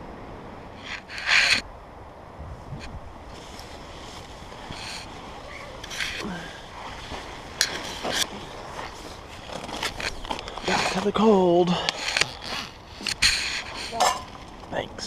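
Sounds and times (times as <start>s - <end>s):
wind rushing: 0.0s - 14.5s
camping gear rustling: 0.7s - 1.7s, 2.5s - 15.0s.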